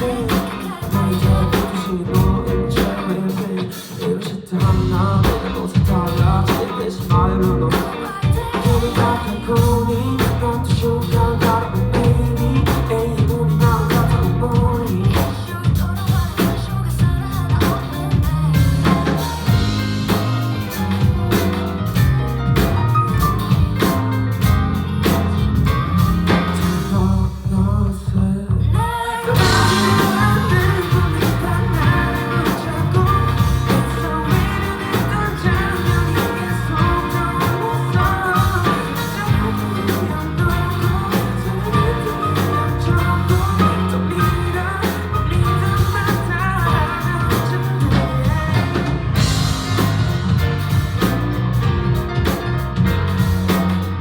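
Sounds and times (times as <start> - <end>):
live pop-rock band playing: 0.0 - 54.0.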